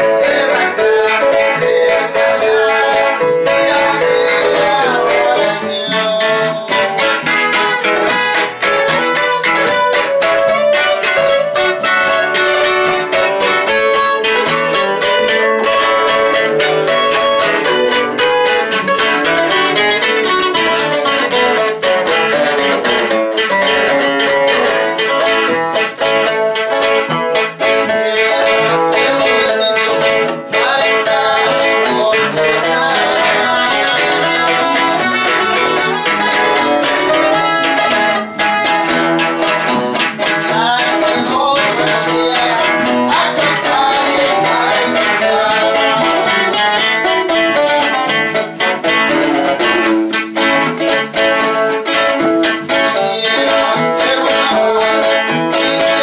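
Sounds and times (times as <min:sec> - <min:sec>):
guitars plucking a tune: 0:00.0 - 0:56.0.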